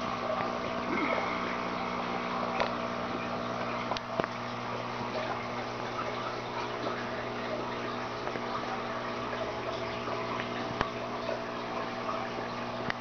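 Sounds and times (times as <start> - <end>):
water pump humming: 0.0 - 13.0
water trickling: 0.0 - 13.0.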